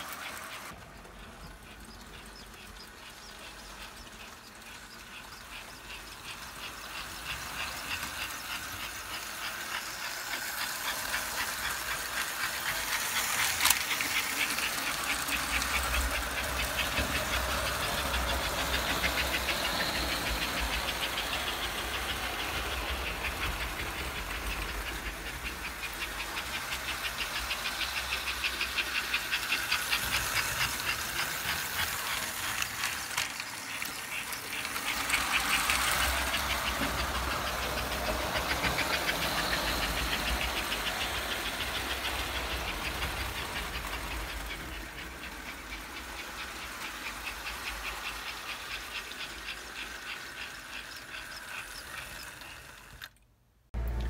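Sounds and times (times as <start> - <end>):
toy train ticking on track: 0.0 - 53.2.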